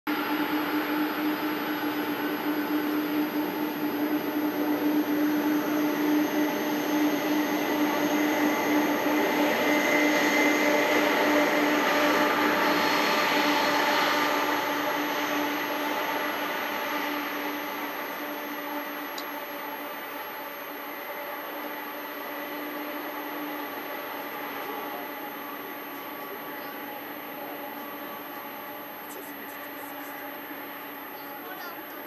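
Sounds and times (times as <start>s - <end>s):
jet engines taxiing: 0.1s - 32.0s.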